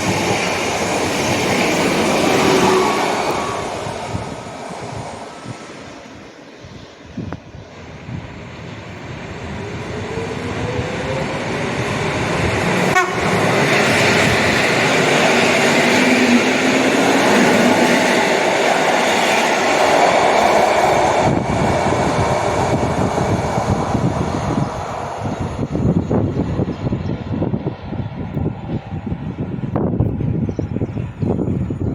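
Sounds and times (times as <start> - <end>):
train passing: 0.0 - 31.9.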